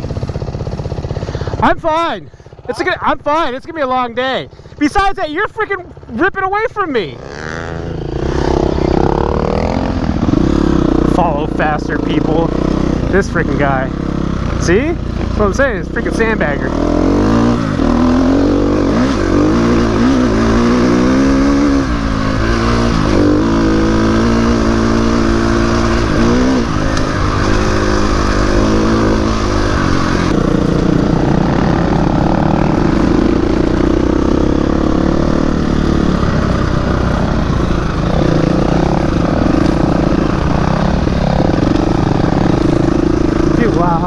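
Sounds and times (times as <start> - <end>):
dirt bike engine revving: 0.0 - 4.1, 4.8 - 44.0.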